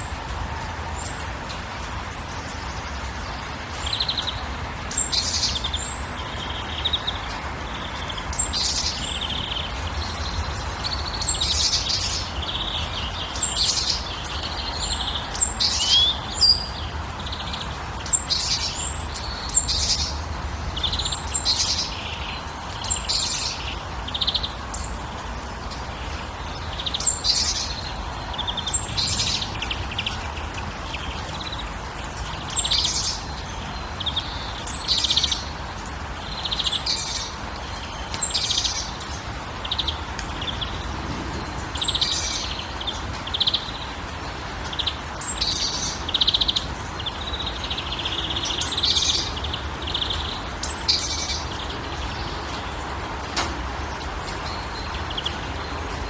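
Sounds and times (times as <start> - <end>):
small birds chirping: 1.0 - 56.0.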